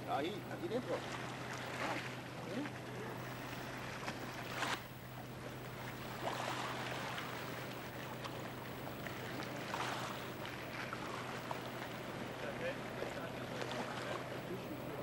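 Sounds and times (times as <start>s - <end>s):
constant low hum: 0.0s - 15.0s
fast river water: 0.0s - 15.0s.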